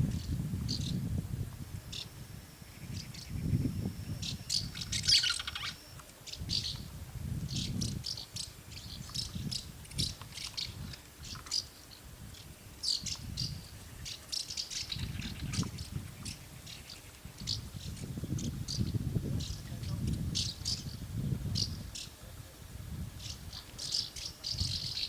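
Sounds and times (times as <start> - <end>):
swallows twittering: 0.1 - 1.0, 1.9 - 22.2, 23.2 - 25.0.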